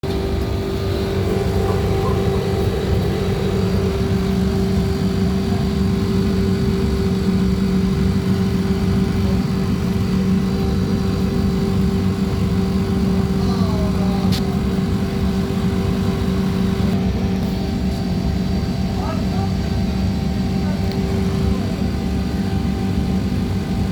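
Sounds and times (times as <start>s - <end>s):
refrigeration unit humming: 0.0s - 23.9s.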